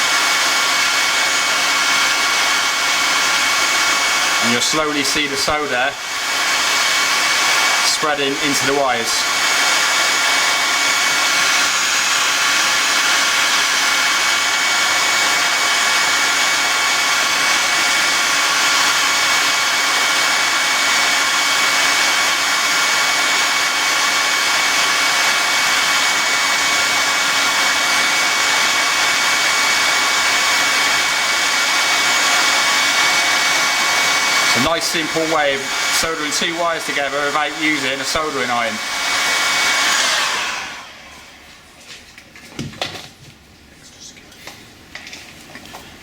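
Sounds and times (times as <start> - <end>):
hot air gun blowing: 0.0 - 41.4.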